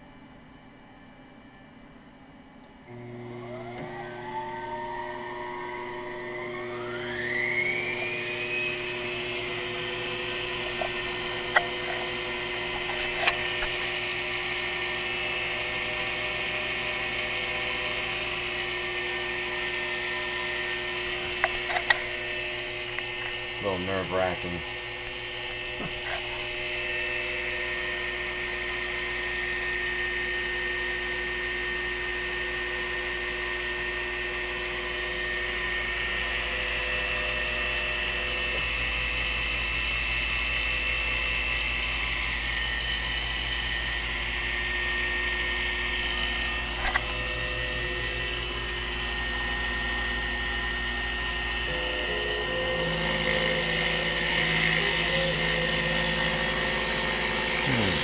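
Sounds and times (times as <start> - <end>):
mill spindle motor whine: 0.0 - 58.0
cutter cutting workpiece: 2.9 - 58.0.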